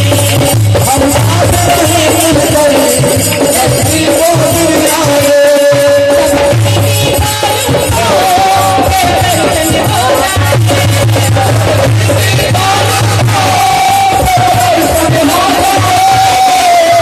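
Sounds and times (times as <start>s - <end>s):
shaker percussion: 0.0s - 17.0s
steady drum beat: 0.0s - 17.0s.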